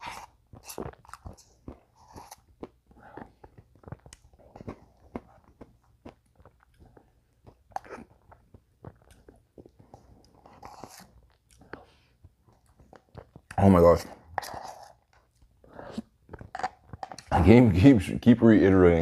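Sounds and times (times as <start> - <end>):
wet mouth clicks: 0.0 - 13.6, 15.1 - 17.3
crunching and chewing: 0.0 - 17.8.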